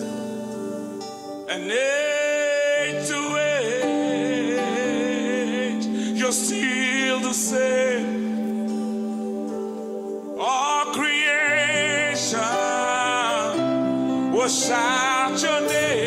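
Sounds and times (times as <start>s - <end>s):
sustained backing chords: 0.0s - 16.0s
man singing gospel melody: 1.5s - 9.0s, 10.3s - 16.0s.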